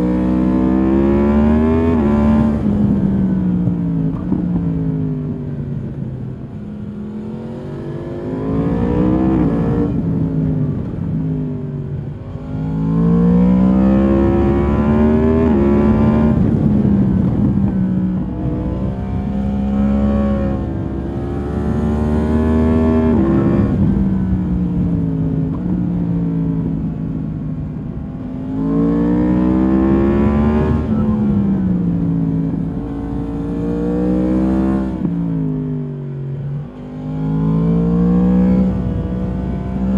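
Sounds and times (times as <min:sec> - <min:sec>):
motorcycle engine revving: 0:00.0 - 0:05.2, 0:06.6 - 0:35.8, 0:36.4 - 0:39.9.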